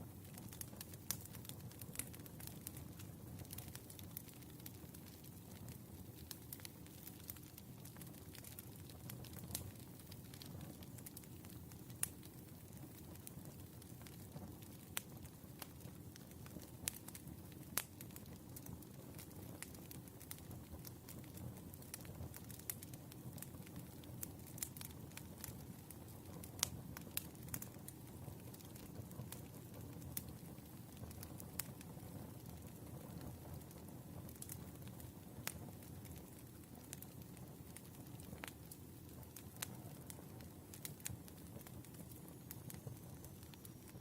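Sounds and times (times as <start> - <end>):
fire crackles and pops: 0.0 - 44.0
wood fire rumbling: 0.1 - 44.0.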